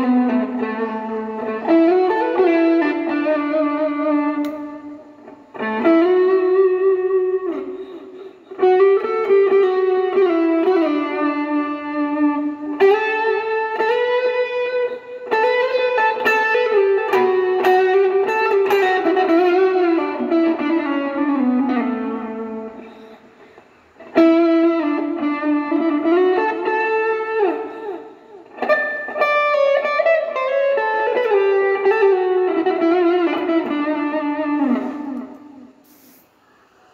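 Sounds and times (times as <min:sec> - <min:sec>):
overdriven electric guitar lead: 0:00.0 - 0:36.1.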